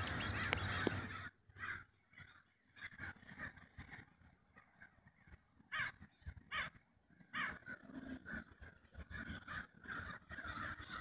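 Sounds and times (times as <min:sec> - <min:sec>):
birds calling harshly: 0:00.0 - 0:11.0.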